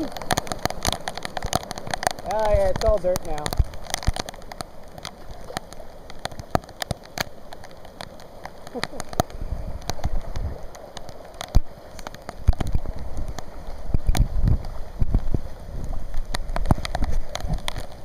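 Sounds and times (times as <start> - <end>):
floodwater rushing and gurgling: 0.0 - 18.0
heavy rain: 0.0 - 18.0.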